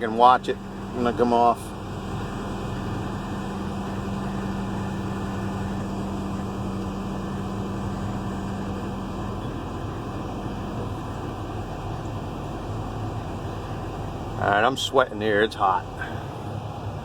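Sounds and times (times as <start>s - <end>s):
diesel engine running: 0.0s - 17.0s
steady low hum: 0.0s - 17.0s.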